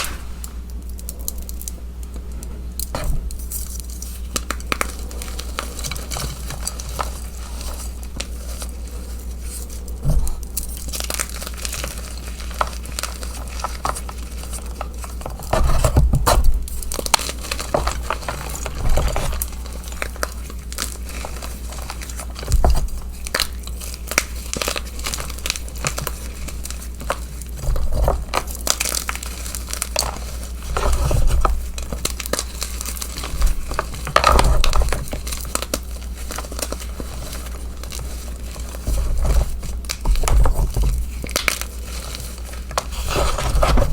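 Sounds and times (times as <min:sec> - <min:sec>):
chalk crunching and crumbling: 0:00.0 - 0:43.9
steady low hum: 0:00.0 - 0:43.9.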